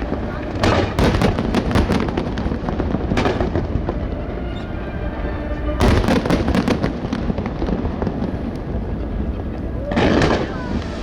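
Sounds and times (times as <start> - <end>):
fireworks crackling: 0.0 - 11.0
steady low rumble: 0.0 - 11.0.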